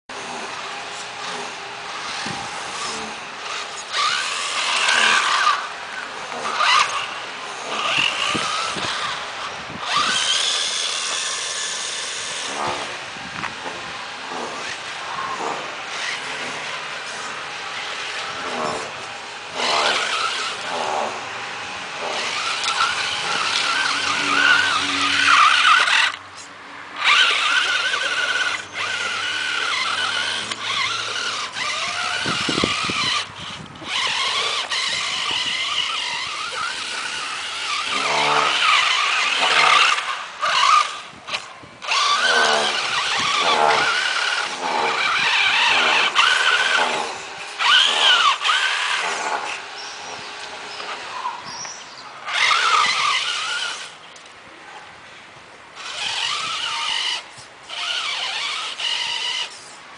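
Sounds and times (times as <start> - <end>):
model truck motor whining: 0.1 - 54.9, 55.7 - 59.9.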